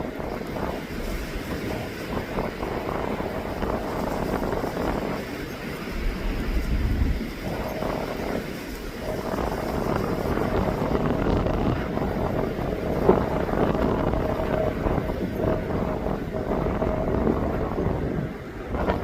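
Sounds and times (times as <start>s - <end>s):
jet engine rumble: 0.0s - 19.0s
wind buffeting microphone: 0.0s - 19.0s.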